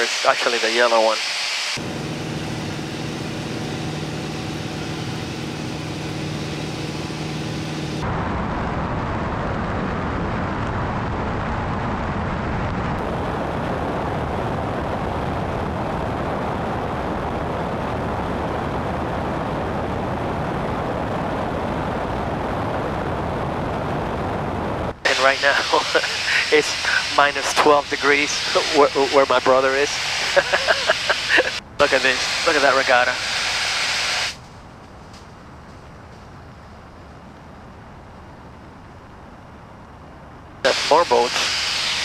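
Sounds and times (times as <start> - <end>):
airplane engine drone in cabin: 0.0 - 42.0
slipstream wind and engine: 0.0 - 42.0.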